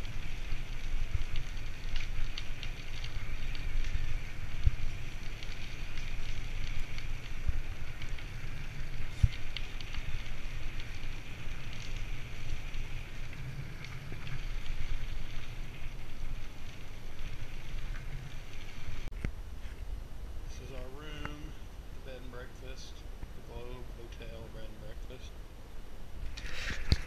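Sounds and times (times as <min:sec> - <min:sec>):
wind rumble on microphone: 0:00.0 - 0:23.5
bicycle tyres rolling on gravel: 0:00.0 - 0:27.0.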